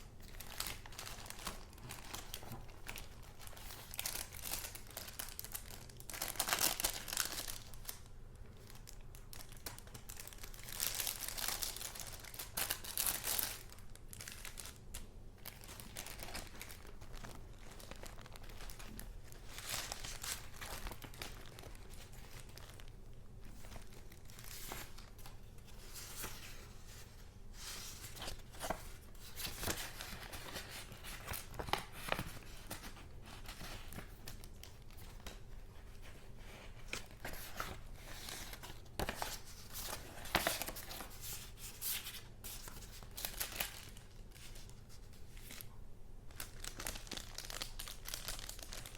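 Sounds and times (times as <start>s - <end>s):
paper rustling and crinkling: 0.2s - 48.9s.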